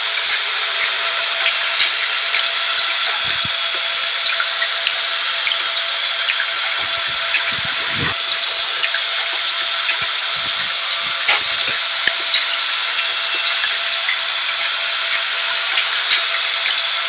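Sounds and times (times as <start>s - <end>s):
rain hissing: 0.0s - 17.0s
vacuum cleaner motor whine: 0.0s - 17.0s.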